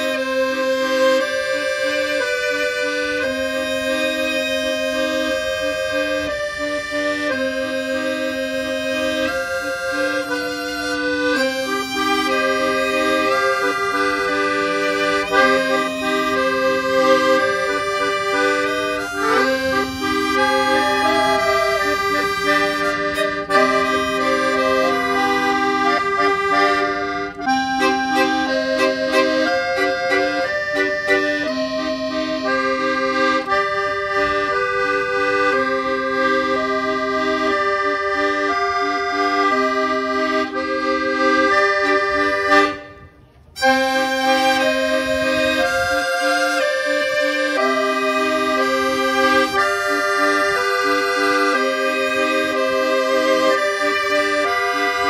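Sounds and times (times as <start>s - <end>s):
accordion-like melody with chords: 0.0s - 55.0s.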